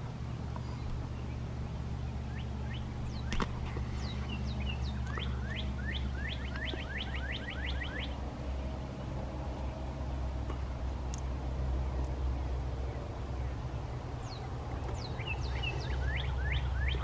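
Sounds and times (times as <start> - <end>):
songbird singing: 0.0 - 17.0
steady low rumble: 0.0 - 17.0.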